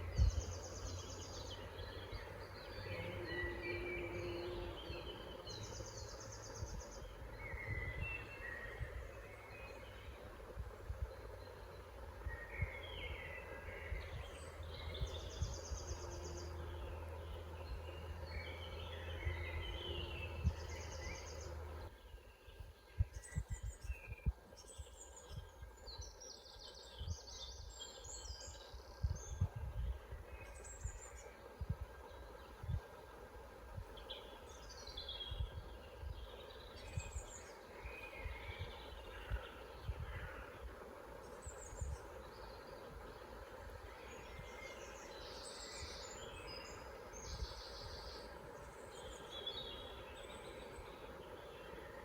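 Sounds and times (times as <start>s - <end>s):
songbirds singing and calling: 0.0s - 52.0s.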